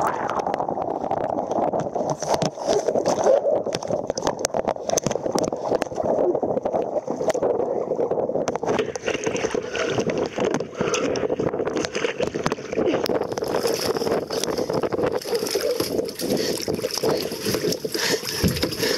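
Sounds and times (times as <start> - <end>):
water splashing around kayak: 0.0 - 18.9
wind buffeting microphone: 0.0 - 18.9.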